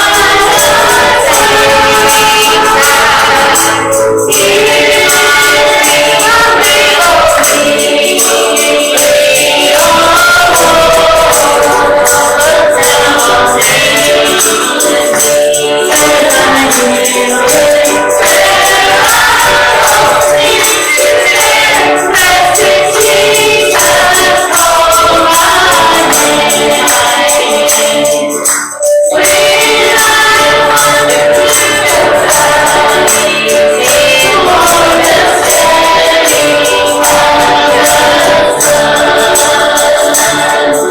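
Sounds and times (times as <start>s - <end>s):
choir singing gospel song: 0.0s - 40.9s
tambourine shaken in a beat: 0.0s - 40.9s.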